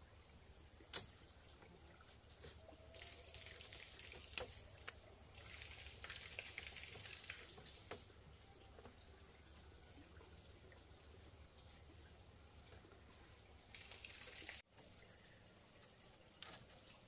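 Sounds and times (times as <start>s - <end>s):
faint water splashing and pouring: 0.0s - 17.0s.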